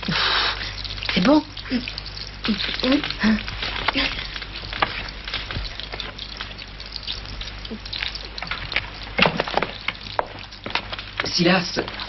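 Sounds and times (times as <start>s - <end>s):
food sizzling and popping: 0.0s - 12.0s.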